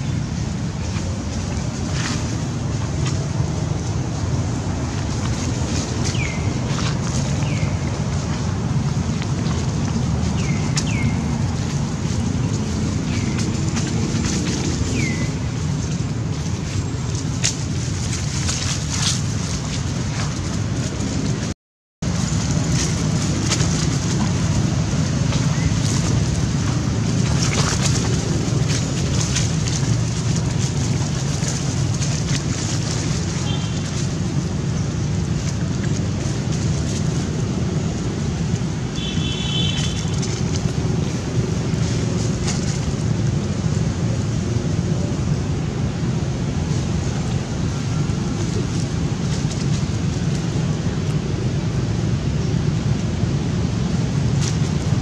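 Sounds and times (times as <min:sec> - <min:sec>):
dry leaves crackling underfoot: 0:00.0 - 0:45.3, 0:46.0 - 0:51.6
low rumbling background noise: 0:00.0 - 0:55.0
wind buffeting microphone: 0:00.0 - 0:55.0.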